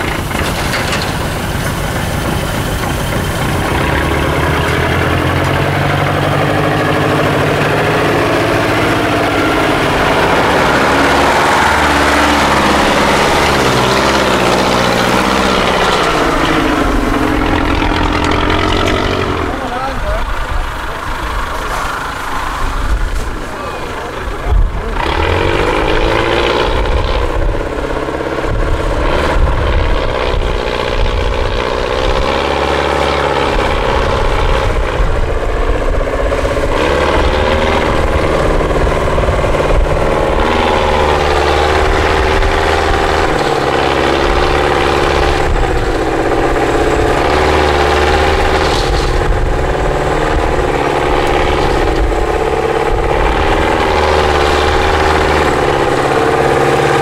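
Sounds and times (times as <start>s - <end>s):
truck diesel engine labouring: 0.0s - 57.0s.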